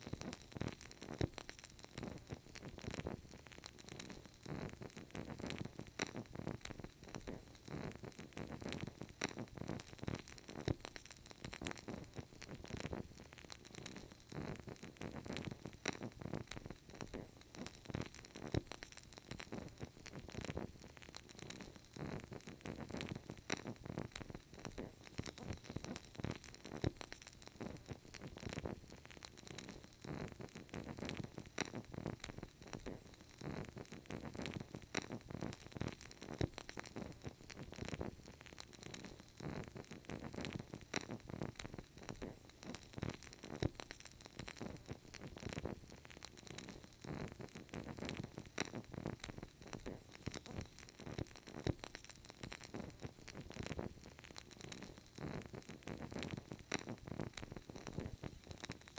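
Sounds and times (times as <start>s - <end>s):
candle flame crackling: 0.0s - 58.9s
faint steady hiss: 0.0s - 58.9s.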